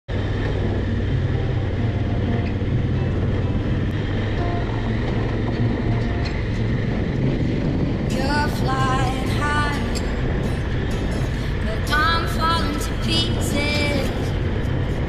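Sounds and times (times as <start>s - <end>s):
motorcycle engine running: 0.1s - 15.0s
wind noise: 0.1s - 15.0s.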